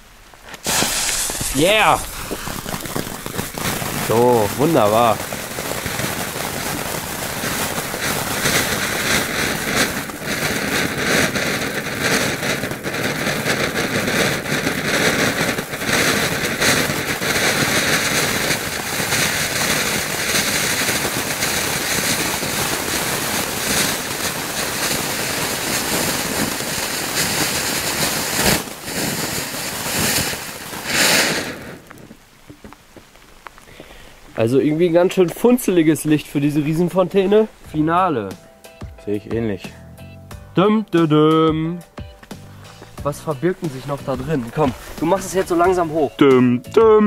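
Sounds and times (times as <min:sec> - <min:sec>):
firework fountain hissing and crackling: 0:00.0 - 0:39.8, 0:40.6 - 0:46.5.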